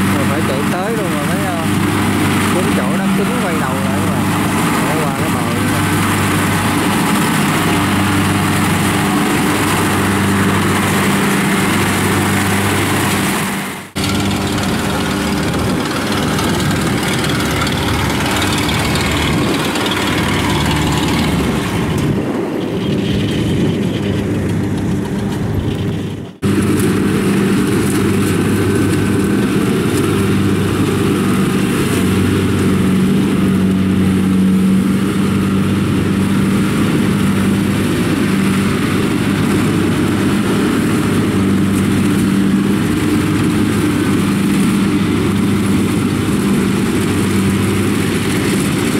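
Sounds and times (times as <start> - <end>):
diesel engine running under load: 0.0 - 48.9
tracked carrier running: 0.0 - 48.9.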